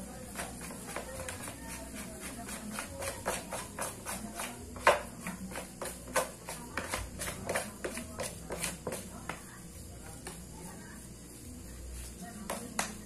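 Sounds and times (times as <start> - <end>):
dough slapping in a basin: 0.0 - 13.0.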